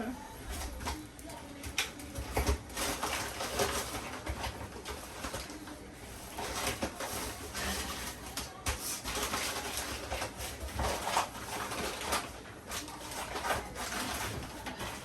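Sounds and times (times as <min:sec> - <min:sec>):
dough stirred in a pot: 0:00.0 - 0:15.0.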